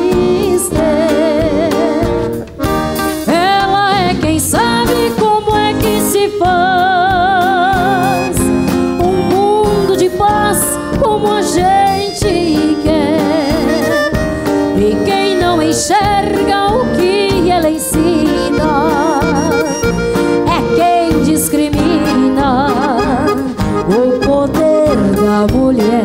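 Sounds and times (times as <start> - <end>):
accordion: 0.0 - 26.0
acoustic guitar: 0.0 - 26.0
drum kit beat: 0.0 - 26.0
electric bass: 0.0 - 26.0.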